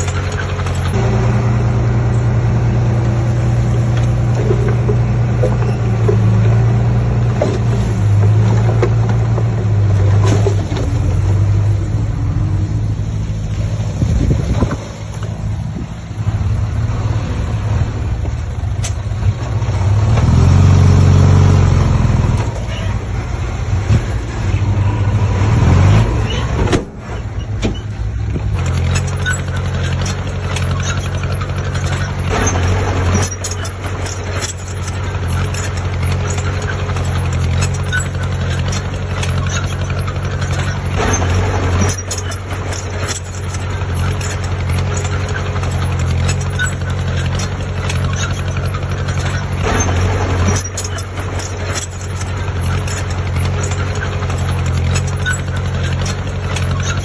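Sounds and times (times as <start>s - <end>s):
heavy diesel engine running: 0.0s - 57.0s
machinery knocks and clatter: 0.0s - 57.0s.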